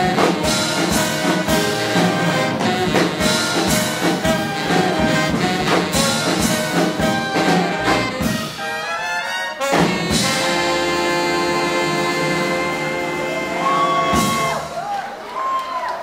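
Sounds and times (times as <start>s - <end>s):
big band swing jazz: 0.0s - 15.0s.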